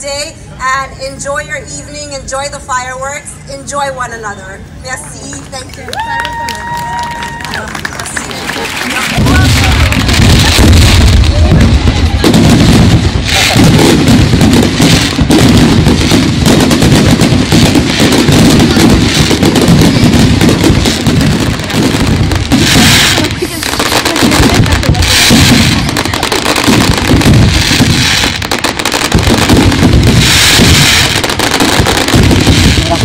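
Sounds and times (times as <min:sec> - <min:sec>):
fireworks bangs and crackles: 0:05.1 - 0:33.0.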